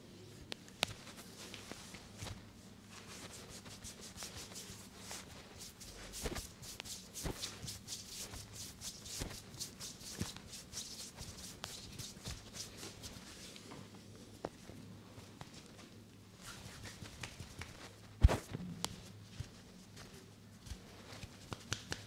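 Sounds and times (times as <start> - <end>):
hands rubbing skin and sleeve: 0.6 - 13.7, 14.4 - 22.0.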